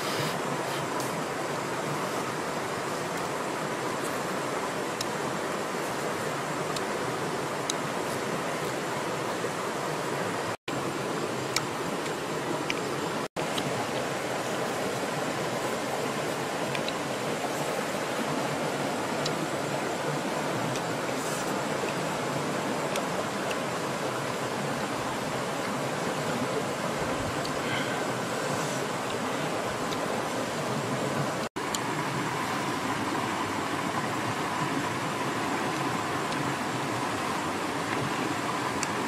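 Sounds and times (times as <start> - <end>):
river water flowing over rocks: 0.0 - 39.0.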